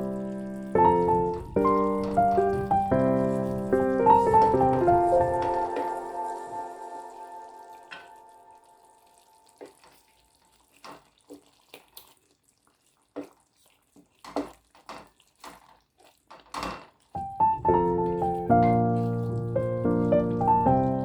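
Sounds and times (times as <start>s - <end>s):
water splashes: 0.0s - 21.0s.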